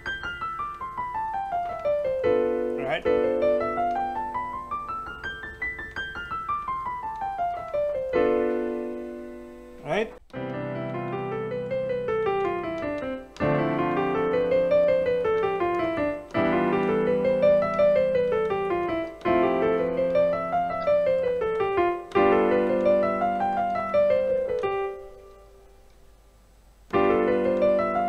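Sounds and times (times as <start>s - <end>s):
digital piano chords and scales: 0.0s - 25.9s, 26.8s - 28.0s.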